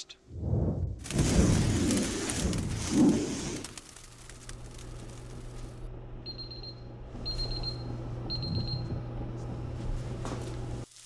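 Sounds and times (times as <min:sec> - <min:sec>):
low steady hum: 0:00.0 - 0:10.9.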